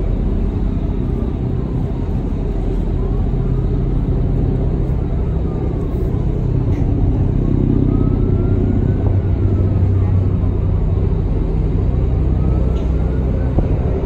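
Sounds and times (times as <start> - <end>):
faint whine: 0.0 - 14.0
ferry engine rumble: 0.0 - 14.0.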